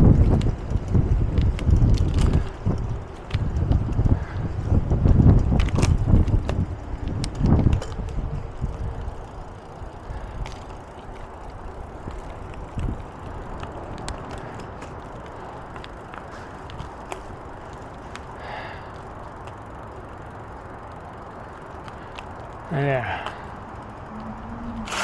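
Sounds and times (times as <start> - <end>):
bicycle tyre and wind noise: 0.0 - 25.0
bike clicks and rattles: 0.0 - 25.0.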